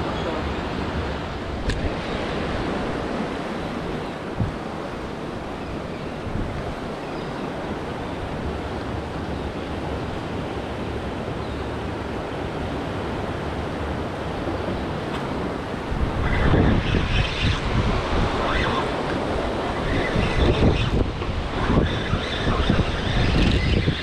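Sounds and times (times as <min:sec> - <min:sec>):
water rushing in strong current: 0:00.0 - 0:24.0
wind buffeting microphone: 0:00.0 - 0:24.0.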